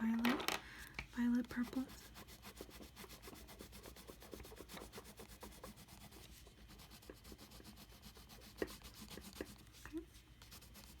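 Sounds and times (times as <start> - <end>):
pencil scratching on paper: 1.4 - 9.8, 10.4 - 11.0.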